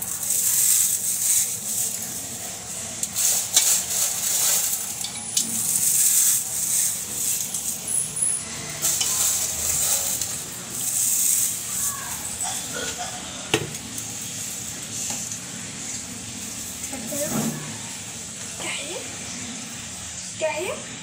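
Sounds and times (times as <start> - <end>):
food sizzling in a pan: 0.0 - 13.0, 13.7 - 20.7.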